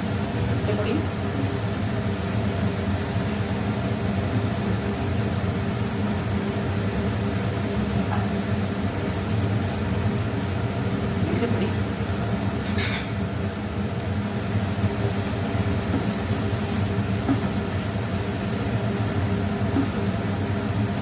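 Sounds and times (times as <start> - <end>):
steady whirring hum: 0.0 - 21.0.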